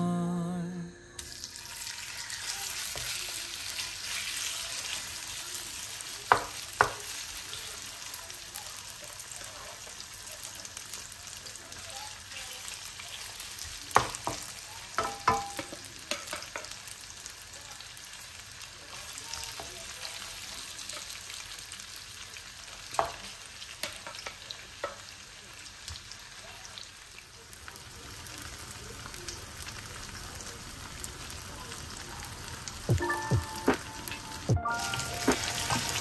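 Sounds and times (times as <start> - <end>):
meat sizzling in a frying pan: 1.2 - 36.0.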